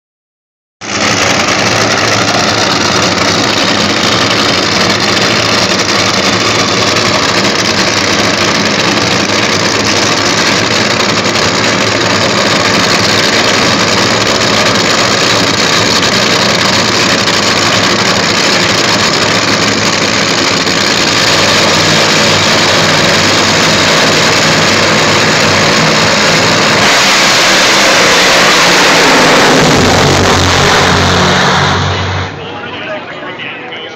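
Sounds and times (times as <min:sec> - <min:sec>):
drag racing engines rumbling: 0:00.8 - 0:33.9.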